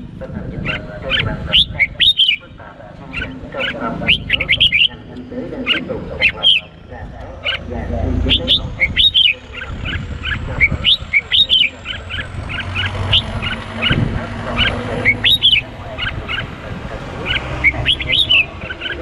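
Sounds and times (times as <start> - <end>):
bird chirping whistled calls: 0.6 - 16.6, 17.2 - 19.0.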